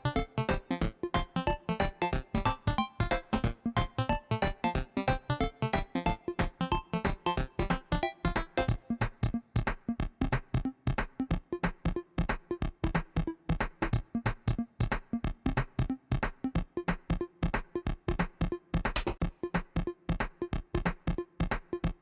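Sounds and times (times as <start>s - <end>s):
drum-machine beat: 0.0s - 22.0s.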